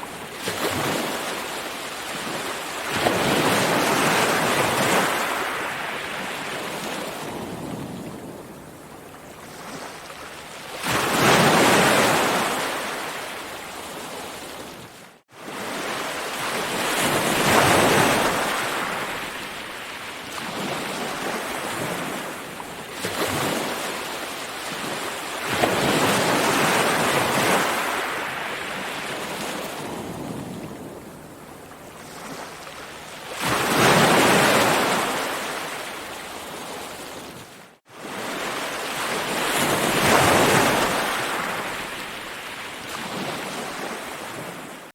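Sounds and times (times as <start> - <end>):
ocean waves on shore: 0.0 - 44.9.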